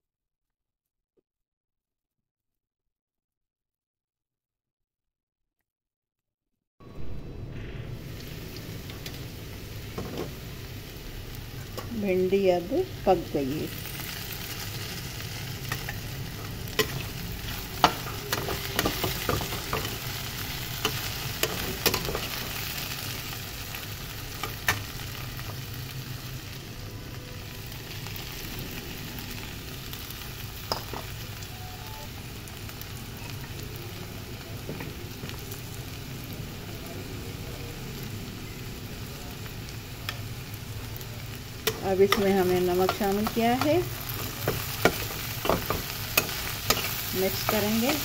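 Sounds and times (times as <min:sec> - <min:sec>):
okra sizzling in a pan: 0:07.0 - 0:48.0.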